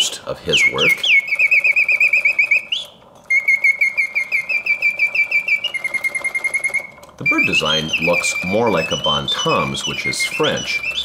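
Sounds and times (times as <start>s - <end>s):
mechanical bird whistle trilling: 0.4s - 11.0s.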